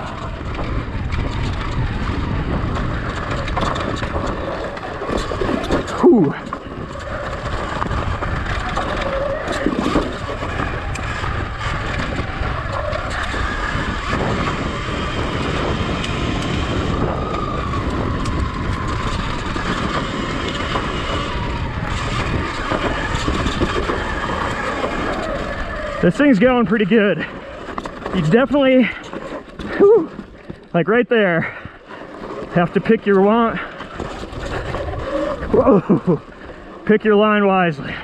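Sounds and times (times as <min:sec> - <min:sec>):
tyres over dirt and rocks: 0:00.0 - 0:38.0
wind buffeting microphone: 0:00.0 - 0:38.0.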